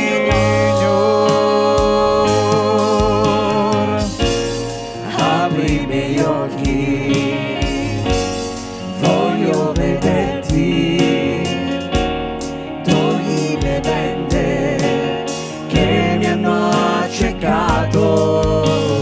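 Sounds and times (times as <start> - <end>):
band accompaniment with steady beat: 0.0 - 19.0
person singing: 0.0 - 19.0.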